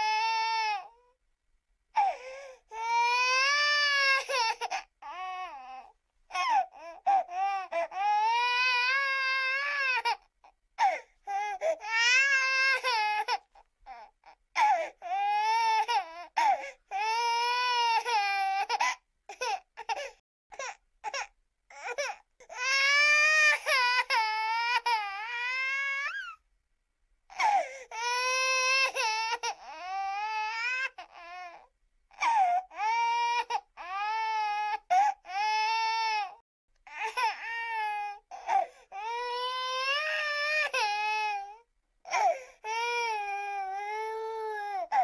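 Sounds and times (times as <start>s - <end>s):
baby crying: 0.0s - 1.2s, 2.0s - 26.4s, 27.3s - 45.0s.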